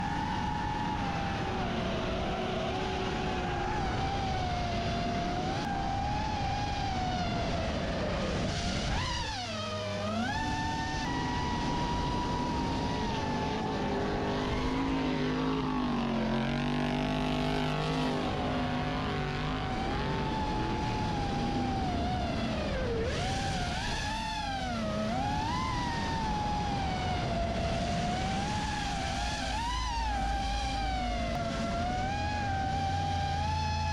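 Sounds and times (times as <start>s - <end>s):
drone motors whining: 0.0s - 33.9s
lower engine note: 0.0s - 33.9s.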